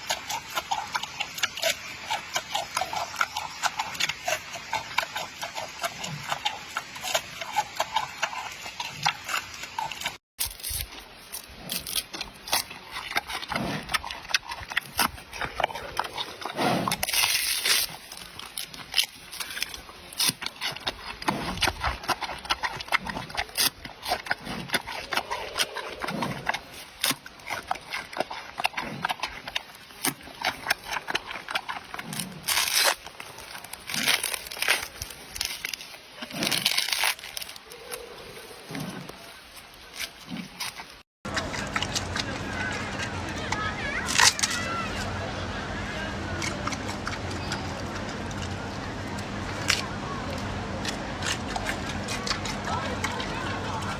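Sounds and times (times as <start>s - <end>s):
panda chewing bamboo: 0.0s - 44.6s, 46.3s - 53.9s.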